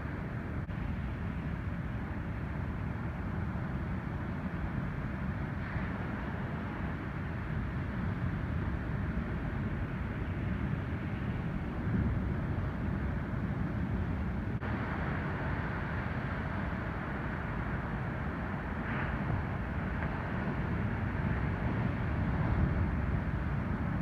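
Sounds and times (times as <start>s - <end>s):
ocean surf roaring: 0.0s - 24.0s.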